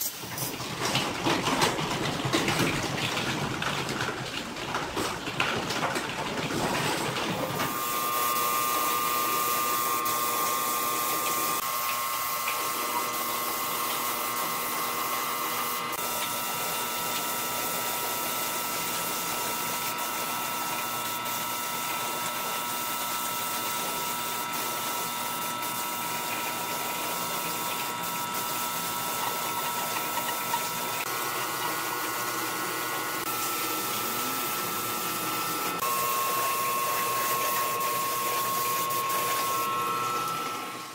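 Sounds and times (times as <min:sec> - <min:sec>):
machine whine: 0:06.9 - 0:40.9.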